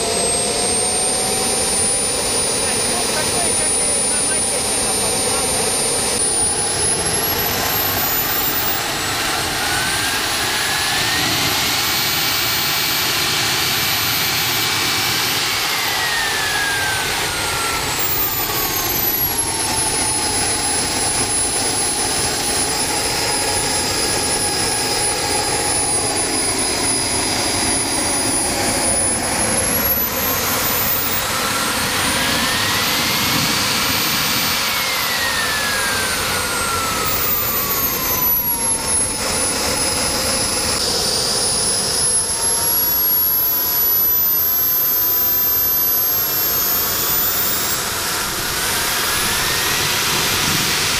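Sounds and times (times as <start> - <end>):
jet engine whine and rush: 0.0 - 50.9.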